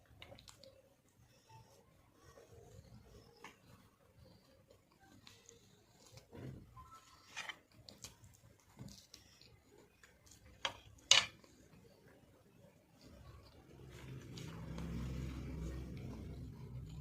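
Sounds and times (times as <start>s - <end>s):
quiet eating sounds: 0.0s - 17.0s.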